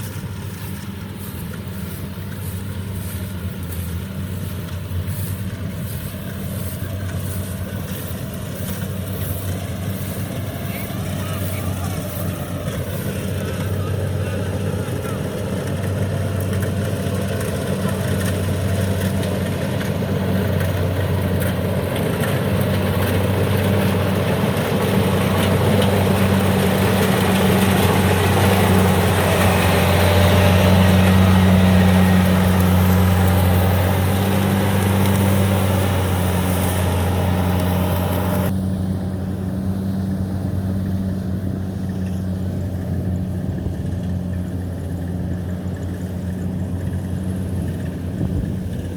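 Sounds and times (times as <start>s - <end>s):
combine harvester diesel engine: 0.0s - 48.9s.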